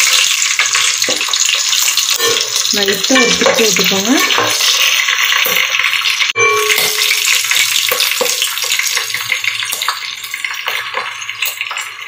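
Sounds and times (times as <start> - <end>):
spices sizzling in hot oil: 0.0 - 12.0
spatula stirring pot: 0.1 - 11.9.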